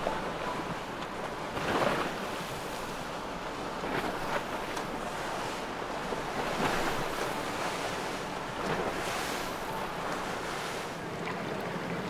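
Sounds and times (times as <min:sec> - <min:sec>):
rushing water and surf: 0:00.0 - 0:12.0.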